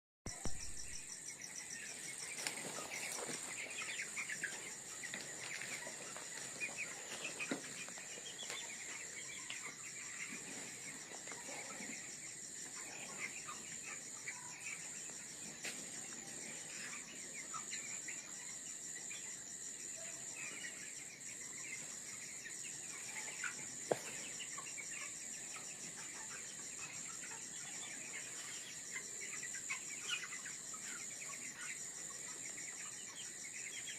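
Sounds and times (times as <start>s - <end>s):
chicks cheeping: 0.3s - 33.9s
high insect trill: 0.3s - 33.9s.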